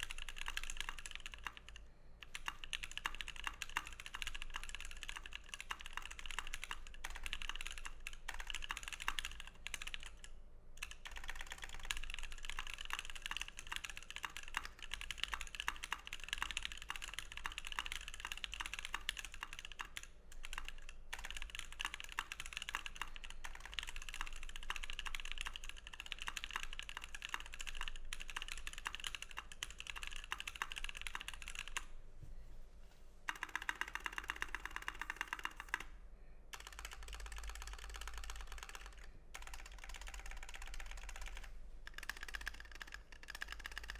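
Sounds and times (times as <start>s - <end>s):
mechanical keyboard typing: 0.0s - 31.9s, 33.3s - 43.9s.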